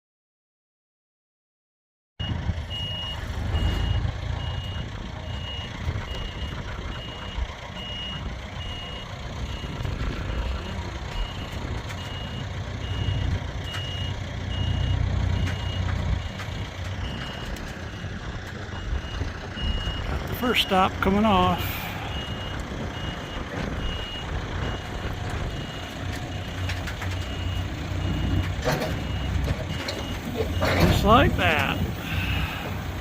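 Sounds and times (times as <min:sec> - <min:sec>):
engine rumbling: 0:02.2 - 0:33.0
vehicle backup alarm beeping: 0:02.2 - 0:33.0.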